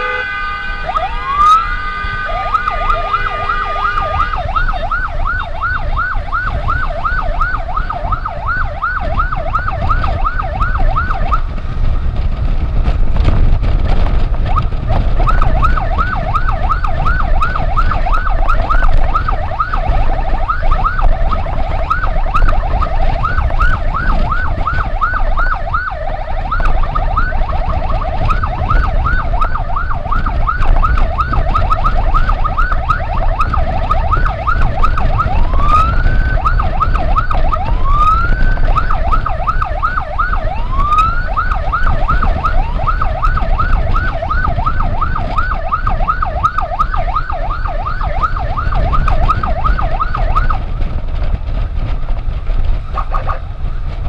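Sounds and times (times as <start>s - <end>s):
siren warbling and wailing: 0.0s - 11.4s, 14.5s - 50.7s, 53.0s - 53.4s
road and wind rumble: 0.0s - 54.0s.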